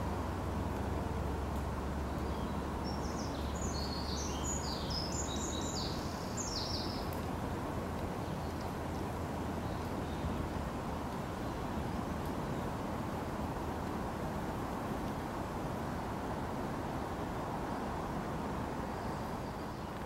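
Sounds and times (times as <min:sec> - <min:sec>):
low outdoor rumble: 0:00.0 - 0:19.6.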